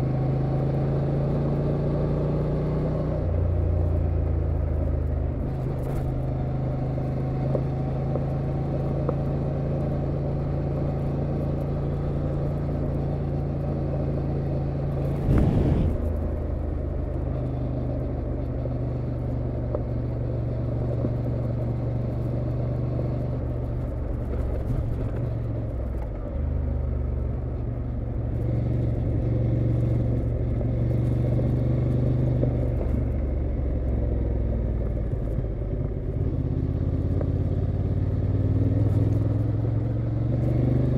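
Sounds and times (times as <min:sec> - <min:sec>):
motorcycle engine at road speed: 0:00.0 - 0:40.9.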